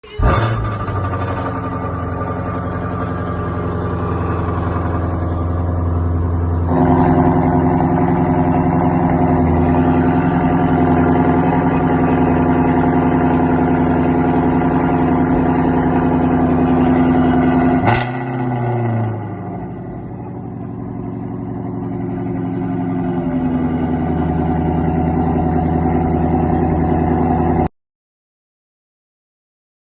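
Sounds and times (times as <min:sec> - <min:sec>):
car engine fast idle: 0:00.0 - 0:27.7.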